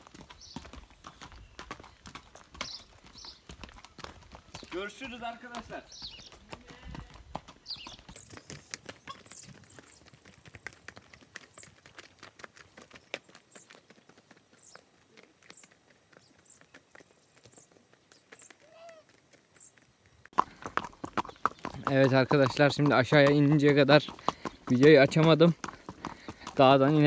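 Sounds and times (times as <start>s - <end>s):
horse hooves clip-clopping on dirt: 0.0s - 27.0s.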